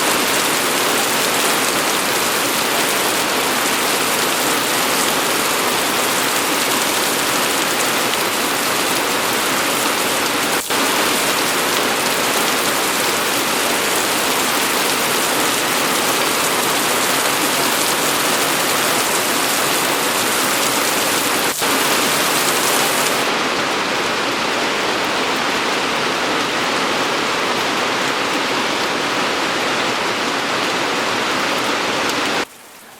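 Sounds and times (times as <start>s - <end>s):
heavy rain on surfaces: 0.0s - 32.9s.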